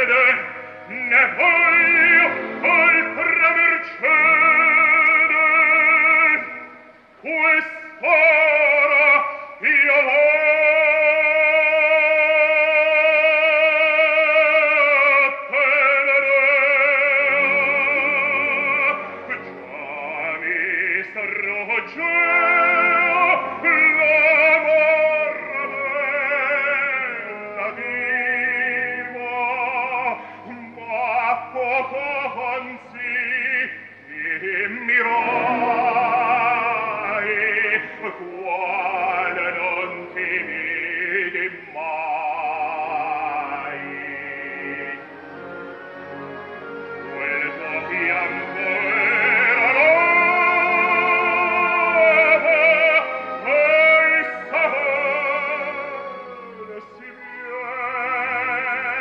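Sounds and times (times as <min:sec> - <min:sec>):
operatic baritone singing: 0:00.0 - 0:59.0
orchestra playing: 0:00.0 - 0:59.0.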